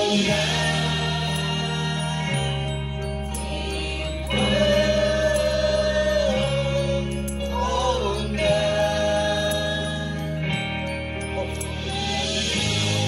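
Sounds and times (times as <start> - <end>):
mixed choir singing: 0.0 - 10.5
instrumental accompaniment: 0.0 - 13.0.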